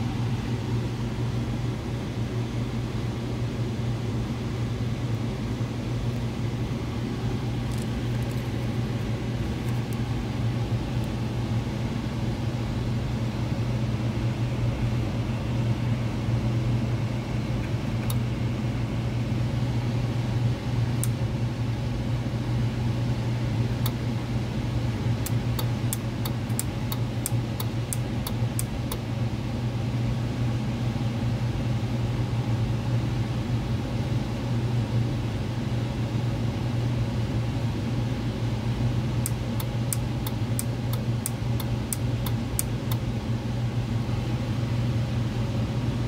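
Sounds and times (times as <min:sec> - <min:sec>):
heat pump humming: 0:00.0 - 0:46.0.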